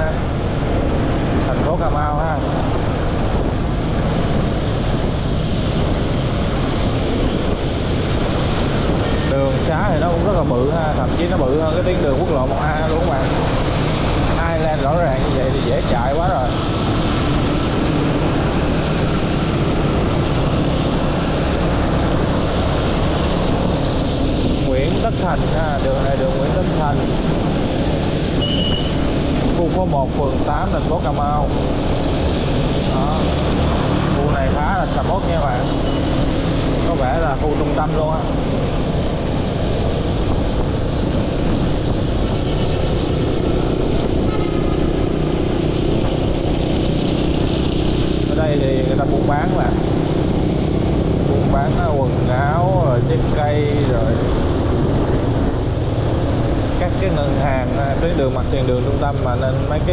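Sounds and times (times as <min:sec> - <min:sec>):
wind rush over microphone: 0:00.0 - 0:59.9.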